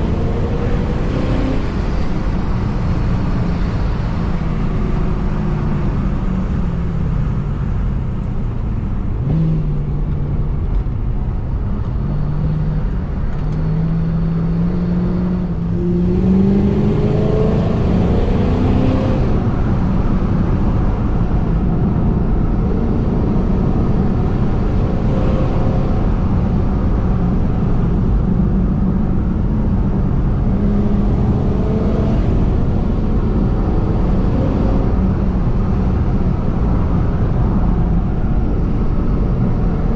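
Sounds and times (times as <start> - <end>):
car engine accelerating: 0.0 - 39.9
low road rumble: 0.0 - 39.9.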